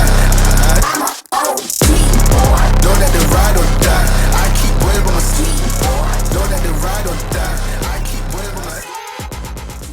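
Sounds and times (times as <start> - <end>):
wavering vocal line: 0.0 - 9.4
hip-hop music with bass beat: 0.0 - 9.9.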